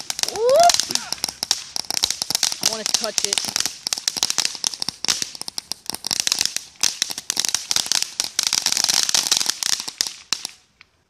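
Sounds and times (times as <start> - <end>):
firework crackling: 0.0 - 10.9.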